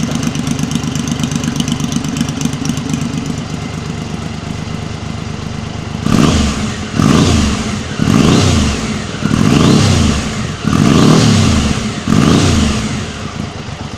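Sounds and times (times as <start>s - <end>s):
motorcycle engine idling and revving: 0.0s - 13.9s.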